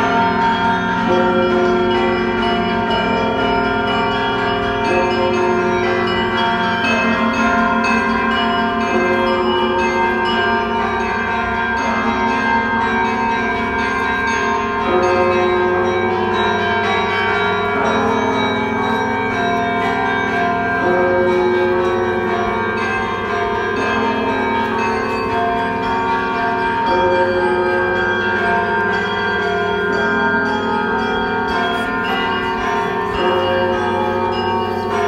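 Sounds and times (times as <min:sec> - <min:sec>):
church bells ringing a peal: 0:00.0 - 0:35.0.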